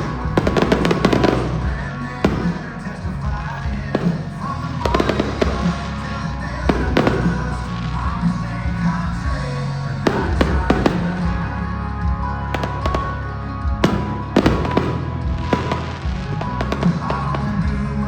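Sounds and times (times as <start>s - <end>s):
fireworks bangs: 0.0s - 11.6s, 12.5s - 17.8s
loud music: 0.0s - 18.0s.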